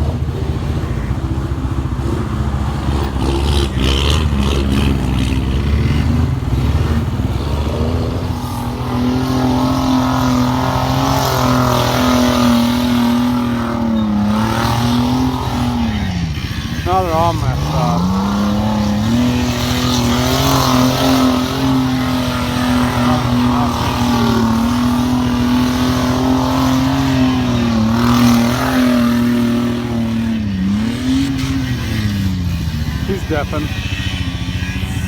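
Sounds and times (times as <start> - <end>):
truck engine revving hard: 0.0 - 35.0.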